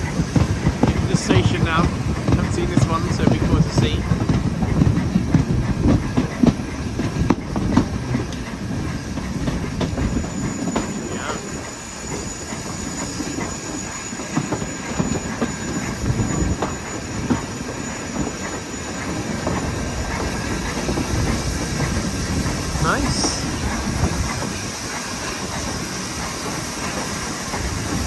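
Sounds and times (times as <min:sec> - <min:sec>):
railway coach rumbling on track: 0:00.0 - 0:28.0
wheels clicking over rails: 0:00.0 - 0:28.0.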